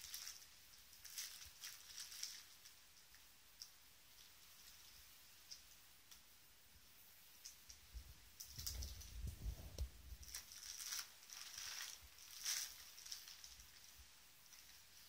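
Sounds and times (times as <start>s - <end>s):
bubble wrap crinkling: 0.0s - 6.2s, 8.4s - 15.0s.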